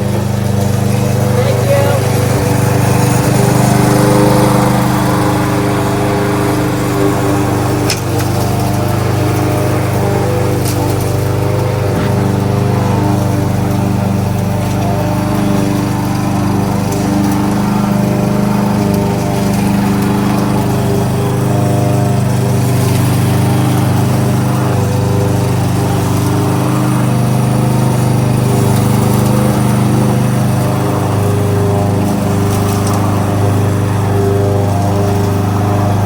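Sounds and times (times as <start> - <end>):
lawnmower engine running: 0.0 - 36.0.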